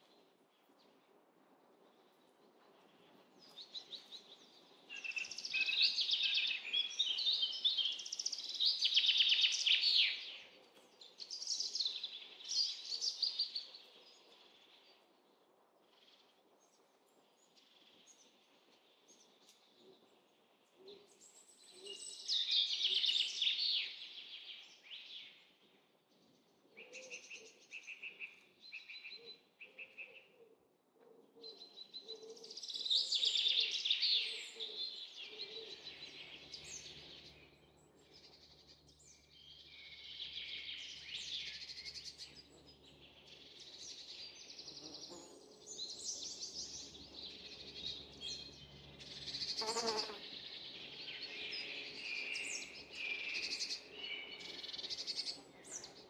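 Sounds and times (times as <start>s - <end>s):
songbirds singing: 1.9s - 56.0s.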